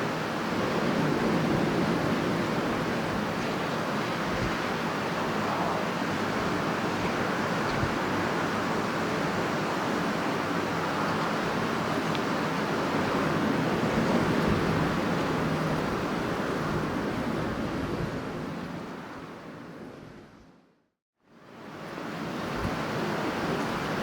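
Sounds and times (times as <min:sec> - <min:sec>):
strong wind blowing: 0:00.0 - 0:20.5.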